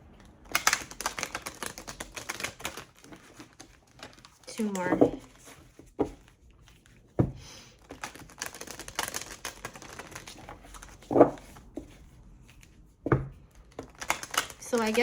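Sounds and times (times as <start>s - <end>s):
cards shuffling: 0.1s - 15.0s.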